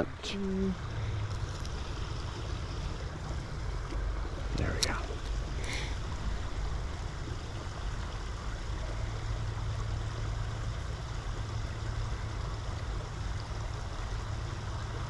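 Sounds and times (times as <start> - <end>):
creek water flowing: 0.0 - 15.0
low rumble: 0.0 - 15.0.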